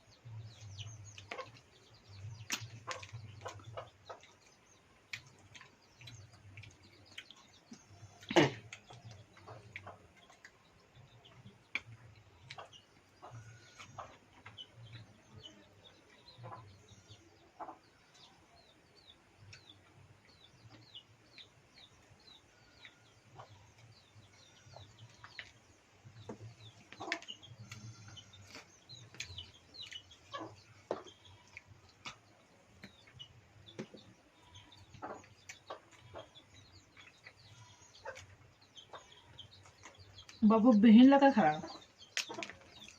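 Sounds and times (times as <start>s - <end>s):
chickens clucking: 0.0s - 40.6s, 41.2s - 42.9s.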